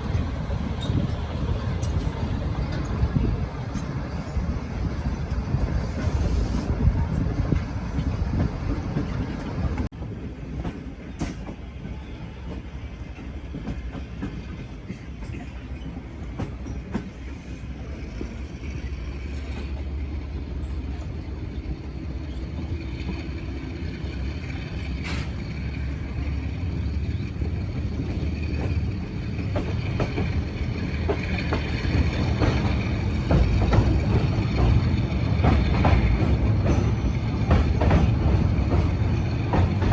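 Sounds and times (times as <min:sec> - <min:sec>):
train rumbling on track: 0:00.0 - 0:39.9
train wheels clacking: 0:00.0 - 0:39.9.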